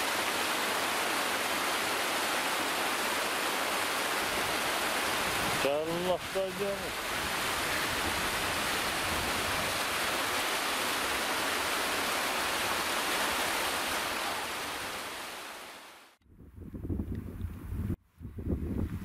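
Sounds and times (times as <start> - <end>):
mountain stream rushing over rocks: 0.0 - 16.2.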